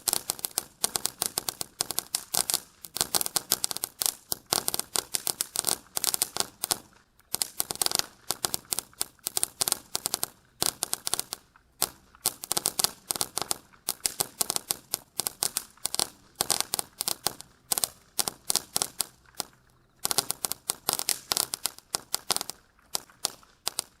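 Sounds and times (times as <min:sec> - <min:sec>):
firecrackers banging: 0:00.0 - 0:24.0.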